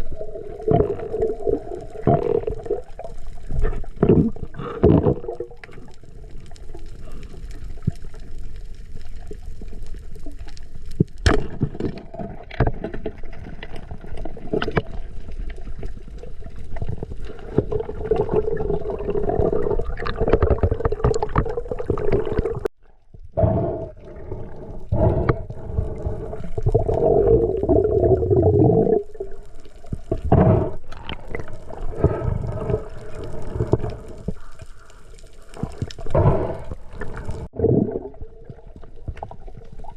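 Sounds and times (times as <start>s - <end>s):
water rushing and bubbling: 0.0s - 22.7s, 23.4s - 39.9s.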